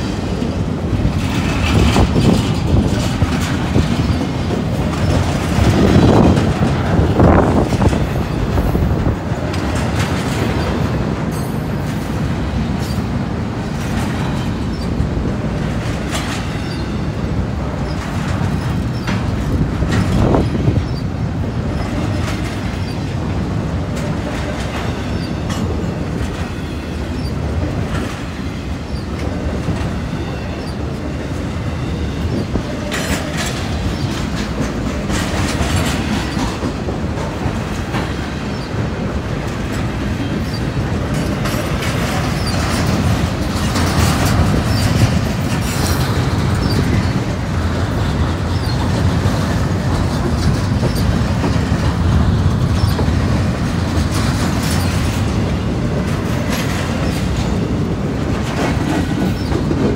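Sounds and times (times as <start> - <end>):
freight train rumbling past: 0.0 - 59.9
train wheels clanking: 0.0 - 59.9.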